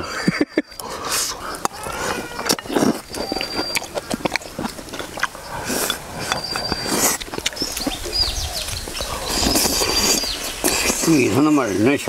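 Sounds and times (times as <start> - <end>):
people chewing and smacking: 0.0 - 12.0.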